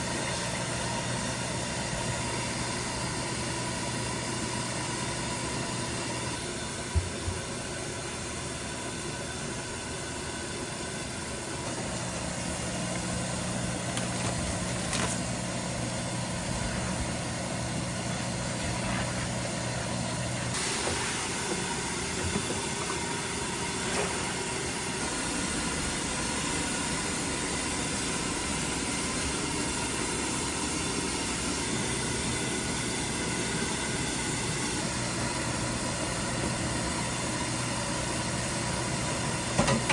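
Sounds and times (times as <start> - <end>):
mechanical hum with hiss: 0.0 - 39.9.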